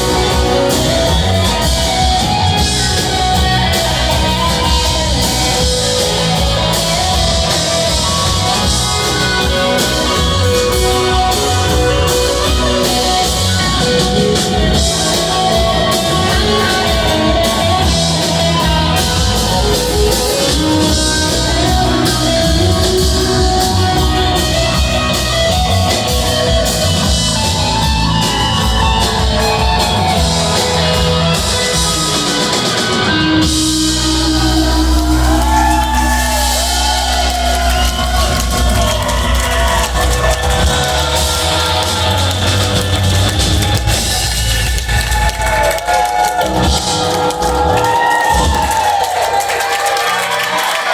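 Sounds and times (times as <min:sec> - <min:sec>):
bass guitar: 0:00.0 - 0:50.9
drum kit: 0:00.0 - 0:50.9
electric guitars: 0:00.0 - 0:50.9.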